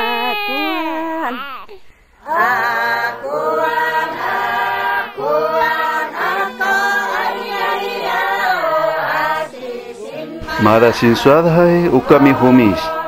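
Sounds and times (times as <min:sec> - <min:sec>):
voices chanting a cappella: 0:02.2 - 0:13.0.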